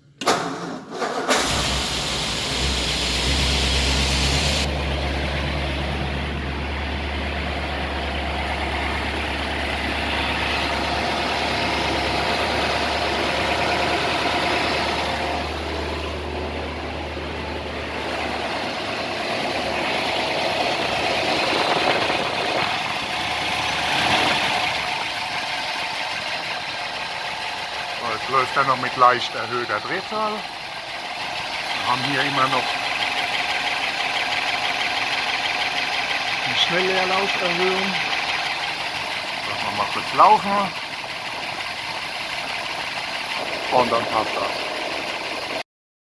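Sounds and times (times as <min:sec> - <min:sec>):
car engine fast idle: 0:00.2 - 0:45.6.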